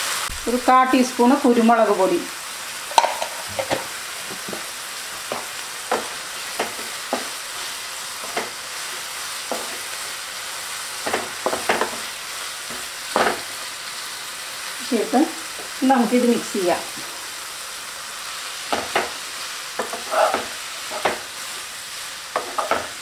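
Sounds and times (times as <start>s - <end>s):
vegetables sizzling in wok: 0.0s - 23.0s
spatula scraping wok: 2.7s - 14.6s, 15.4s - 23.0s.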